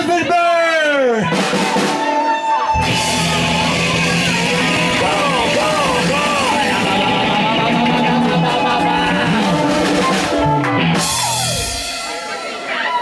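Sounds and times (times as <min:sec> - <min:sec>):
live rock band playing: 0:01.1 - 0:13.0
yelled wavering vocals: 0:01.3 - 0:11.8.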